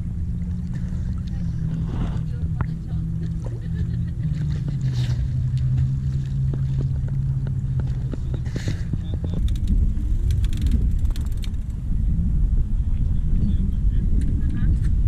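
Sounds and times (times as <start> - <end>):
boat motor running: 0.0 - 15.0
low rumbling noise: 0.0 - 15.0.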